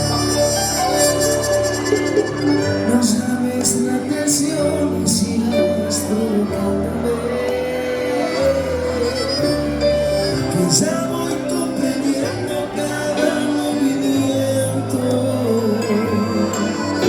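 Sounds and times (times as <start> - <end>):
bass notes: 0.0 - 17.0
melodic lead line: 0.0 - 17.0.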